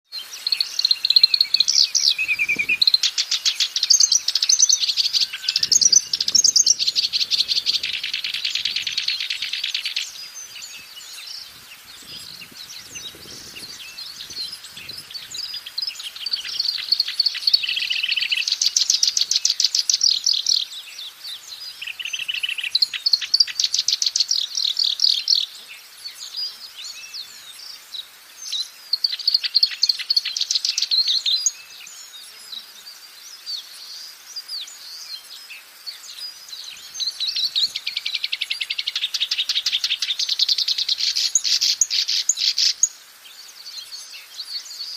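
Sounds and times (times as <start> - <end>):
warbler chattering song: 0.1 - 44.9.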